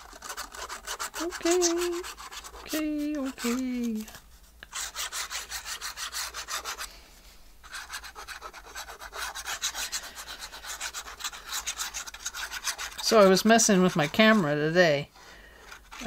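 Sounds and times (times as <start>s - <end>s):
glue bottle tip scratching paper: 0.0s - 6.9s, 7.7s - 14.7s.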